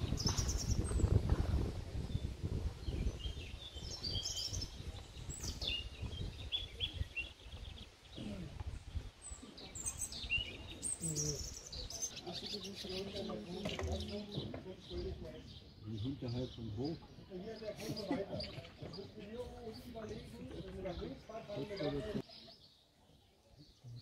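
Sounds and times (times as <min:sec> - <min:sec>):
songbirds chirping and singing: 0:00.0 - 0:24.0.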